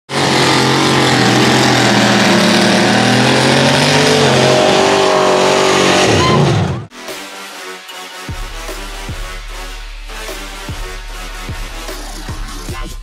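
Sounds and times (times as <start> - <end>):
truck engine running at high revs: 0.1 - 7.3, 7.9 - 13.0.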